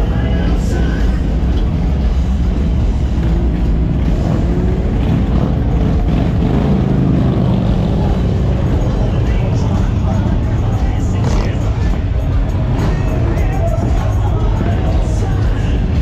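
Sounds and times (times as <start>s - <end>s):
motorcycle engine revving: 0.0s - 16.0s
motorcycles passing: 0.0s - 16.0s.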